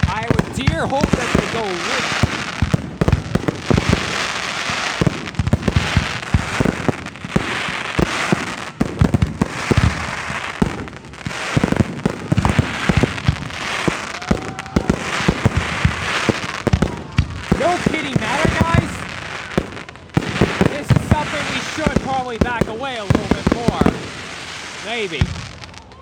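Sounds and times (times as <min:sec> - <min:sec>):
crackling hiss of fireworks: 0:00.0 - 0:26.0
firework booms: 0:00.0 - 0:26.0.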